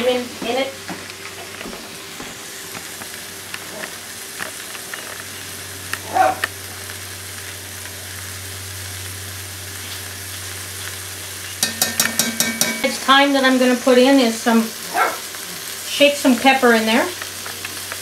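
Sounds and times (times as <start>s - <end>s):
meat sizzling in a pot: 0.0s - 18.0s.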